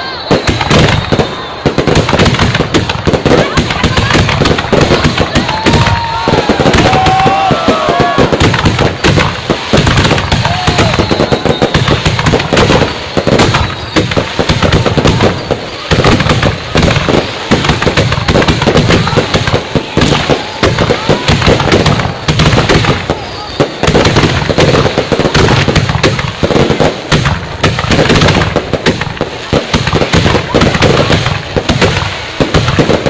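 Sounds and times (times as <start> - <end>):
fireworks cracking and banging: 0.0 - 33.0.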